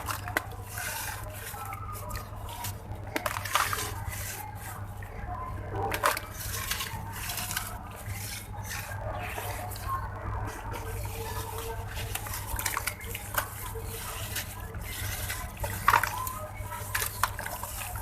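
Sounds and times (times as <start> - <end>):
wet gritty crumbling crackle: 0.0 - 18.0.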